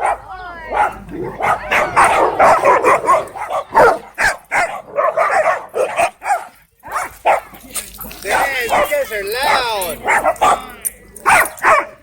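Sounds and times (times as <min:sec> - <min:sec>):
dogs barking and yipping: 0:00.0 - 0:12.0.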